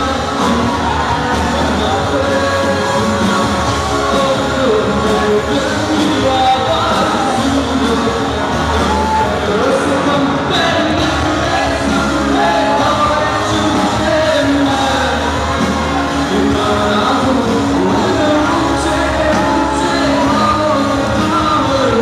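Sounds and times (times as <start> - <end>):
live rock band playing: 0.0 - 22.0
man singing: 0.0 - 22.0.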